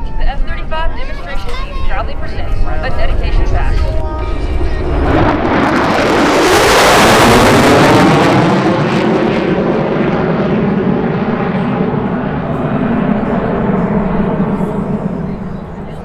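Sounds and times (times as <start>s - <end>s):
jet engine roaring: 0.0s - 16.0s.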